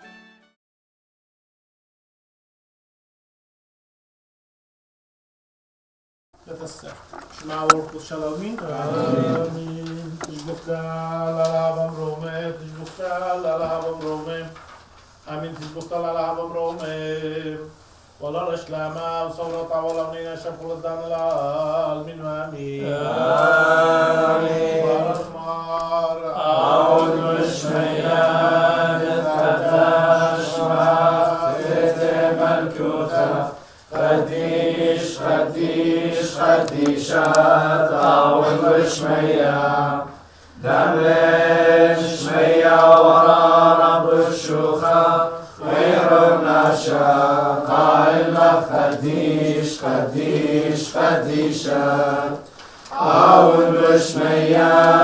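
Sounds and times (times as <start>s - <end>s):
group chanting a hymn: 7.5s - 14.7s, 15.3s - 55.0s.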